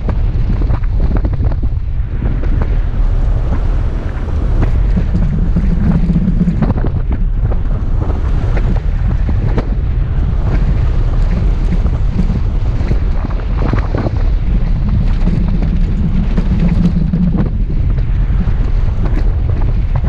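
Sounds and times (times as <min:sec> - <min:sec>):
engine rumbling: 0:00.0 - 0:20.0
wind buffeting microphone: 0:00.0 - 0:20.0.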